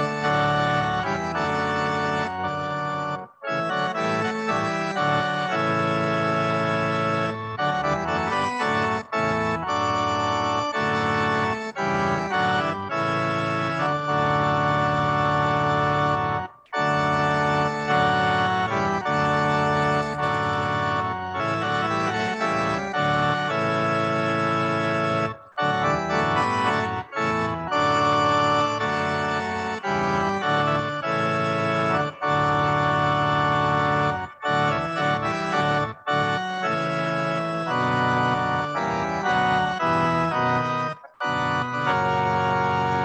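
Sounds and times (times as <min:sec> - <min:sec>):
organ chords: 0:00.0 - 0:43.0.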